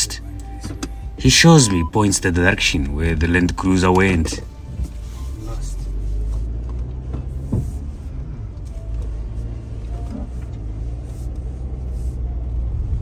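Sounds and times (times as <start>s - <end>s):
vehicle driving on dirt track: 2.4s - 13.0s.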